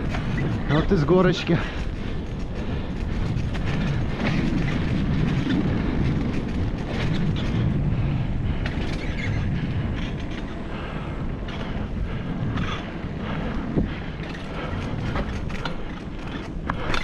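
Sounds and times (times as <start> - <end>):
bike knocks and rattles: 0.0 - 10.6, 11.4 - 17.0
bicycle rumbling on rough trail: 0.0 - 17.0
wind buffeting microphone: 0.0 - 17.0.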